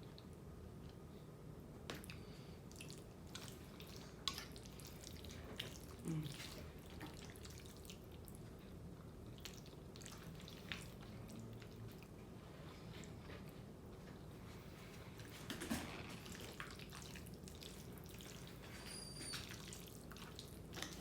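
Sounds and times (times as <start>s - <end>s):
wet chewing sounds: 1.9s - 13.6s, 14.2s - 18.8s, 19.4s - 21.0s.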